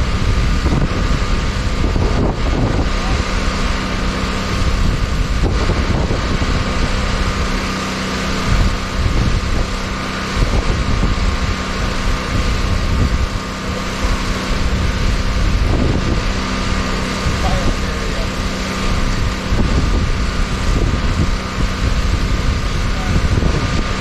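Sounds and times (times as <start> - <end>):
mechanical hum: 0.0 - 24.0
wind on microphone: 0.0 - 24.0.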